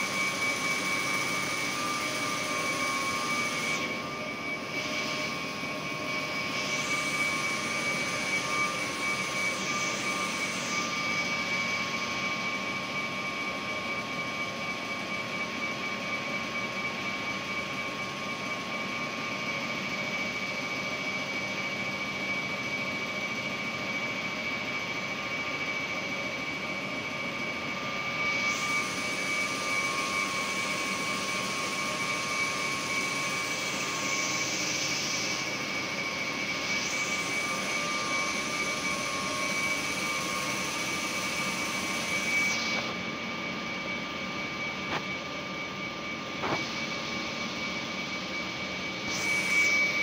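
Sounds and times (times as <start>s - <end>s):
high mechanical whine: 0.0s - 50.0s
refrigeration compressor drone: 0.0s - 50.0s.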